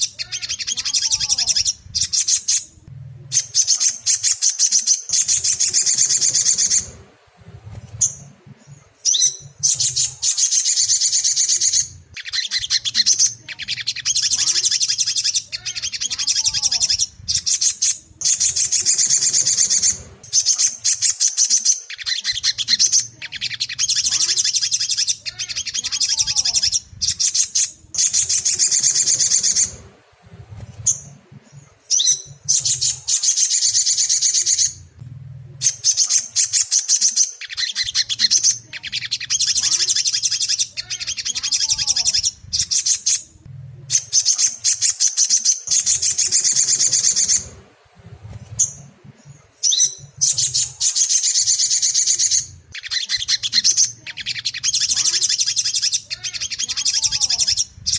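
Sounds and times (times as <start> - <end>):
bird chattering trills: 0.0 - 57.9.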